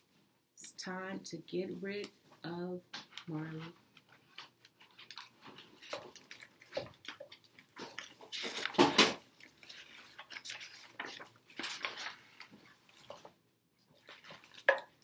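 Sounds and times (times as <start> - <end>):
book pages rustling and flapping: 3.0 - 15.0.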